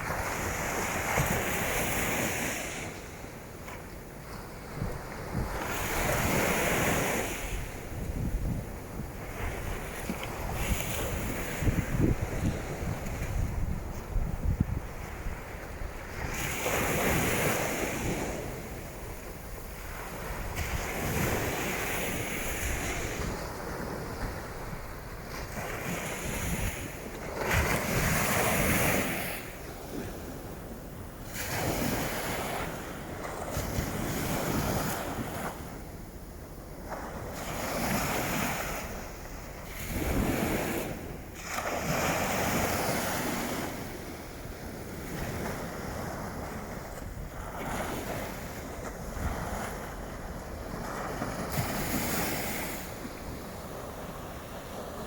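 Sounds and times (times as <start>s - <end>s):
waves washing onto beach: 0.0s - 55.0s
wind buffeting microphone: 4.2s - 55.0s.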